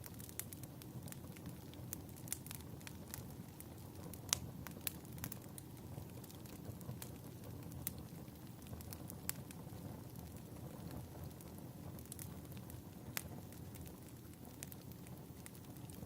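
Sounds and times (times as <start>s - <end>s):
fire burning rumble: 0.0s - 16.0s
fire popping and snapping: 0.0s - 16.0s.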